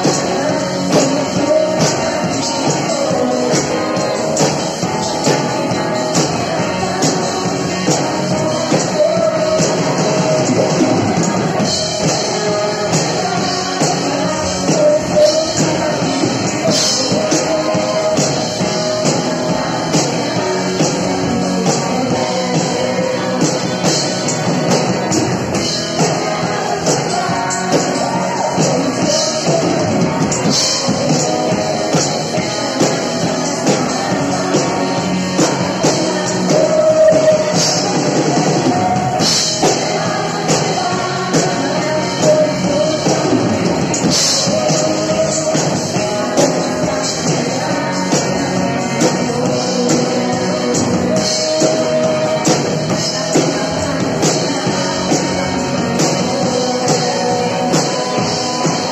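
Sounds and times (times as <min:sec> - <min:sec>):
drum kit with cymbals: 0:00.0 - 0:58.9
electric guitar: 0:00.0 - 0:58.9.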